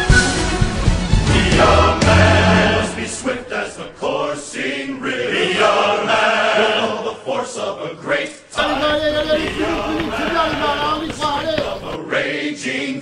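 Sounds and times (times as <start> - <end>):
choir chanting: 1.2 - 13.0.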